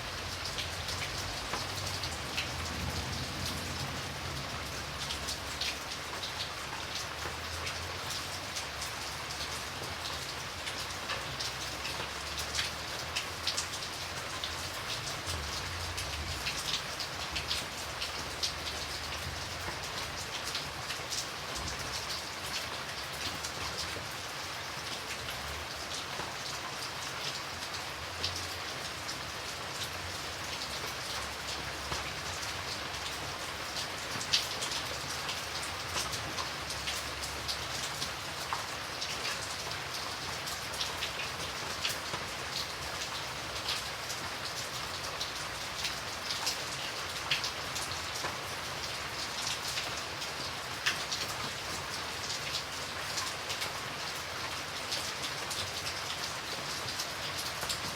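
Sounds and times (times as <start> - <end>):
rain drops pattering on a surface: 0.0 - 57.9.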